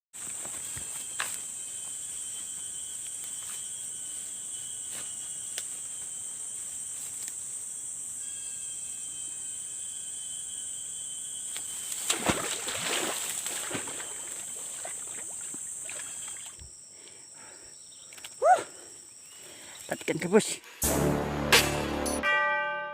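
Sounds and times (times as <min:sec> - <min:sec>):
insect chorus drone: 0:00.2 - 0:20.8.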